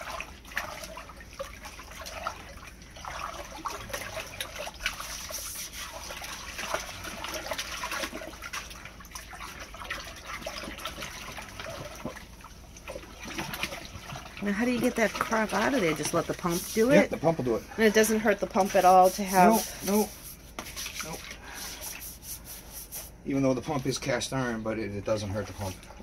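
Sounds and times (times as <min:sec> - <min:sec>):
scrub brush scrubbing: 0:00.0 - 0:12.2, 0:13.2 - 0:23.2, 0:25.3 - 0:26.0
water sloshing and splashing: 0:00.0 - 0:26.0.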